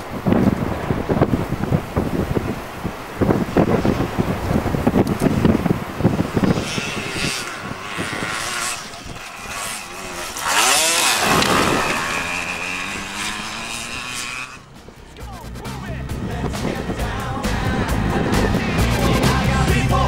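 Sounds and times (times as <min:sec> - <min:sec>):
dirt bike engine revving: 0:00.0 - 0:20.0
wind buffeting microphone: 0:00.0 - 0:20.0.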